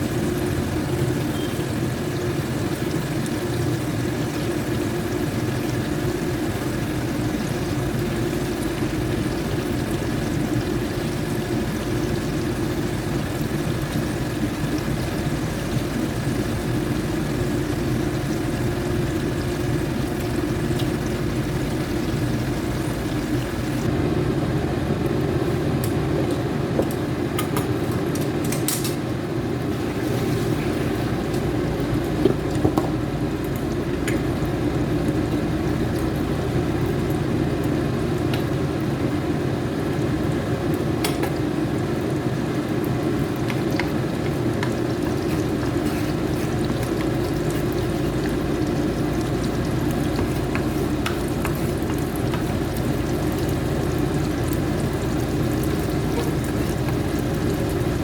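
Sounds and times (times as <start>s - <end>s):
food frying in a pan: 0.0s - 58.0s.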